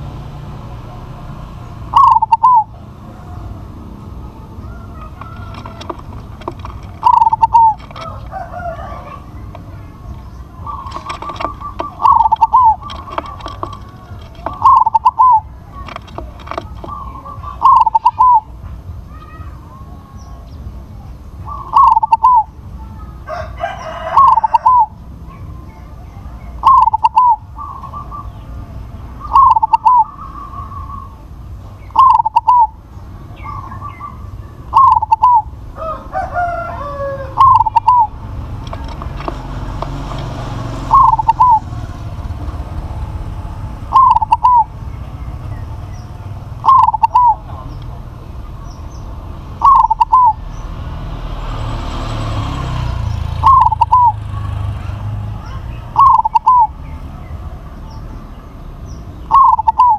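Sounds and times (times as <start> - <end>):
dove cooing: 0.8 - 50.7, 52.6 - 58.1, 59.2 - 59.9.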